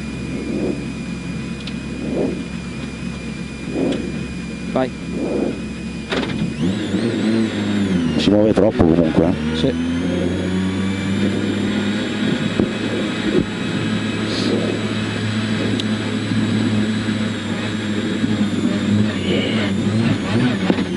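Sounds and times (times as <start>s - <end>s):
car engine running at low revs: 0.0s - 20.9s.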